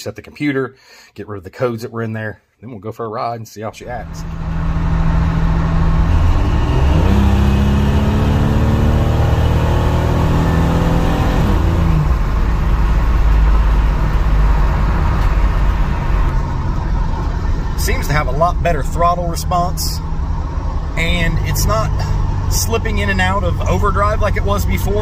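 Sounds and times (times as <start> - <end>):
road noise: 3.8 - 25.0
truck engine accelerating: 3.8 - 25.0.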